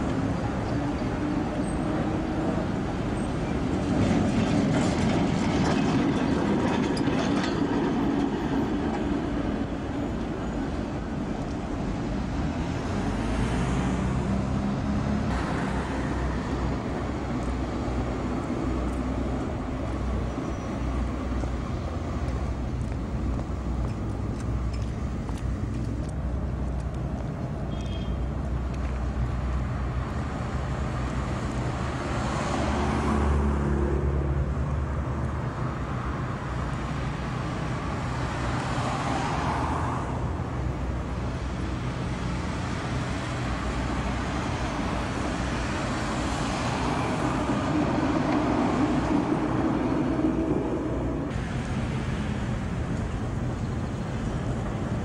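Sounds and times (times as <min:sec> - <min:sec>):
traffic rumble: 0:00.0 - 0:55.0
vehicles passing close by: 0:00.0 - 0:55.0.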